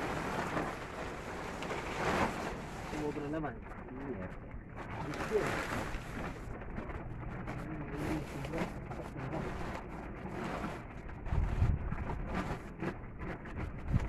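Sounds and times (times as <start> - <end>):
plastic tarpaulin rustling: 0.0 - 14.0
wind rumble on microphone: 0.0 - 14.0.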